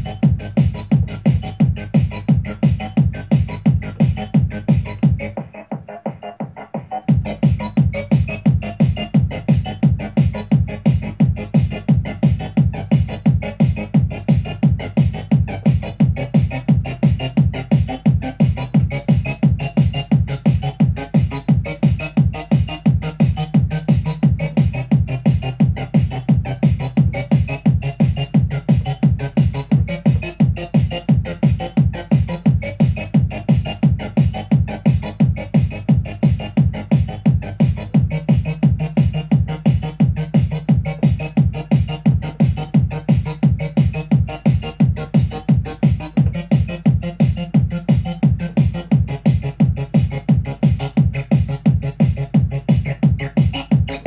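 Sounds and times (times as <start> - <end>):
pulsing synth bassline: 0.0 - 54.0
techno kick drum beat: 0.0 - 54.0.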